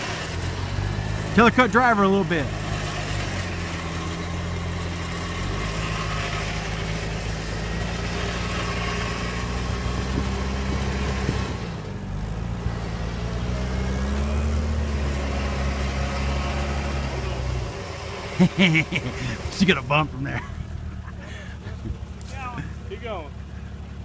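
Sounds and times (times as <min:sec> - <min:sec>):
engine running at low throttle: 0:00.0 - 0:24.0.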